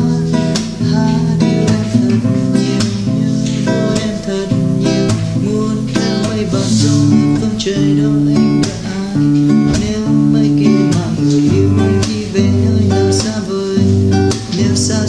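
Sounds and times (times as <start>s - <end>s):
classical guitar strumming chords: 0.0s - 15.0s.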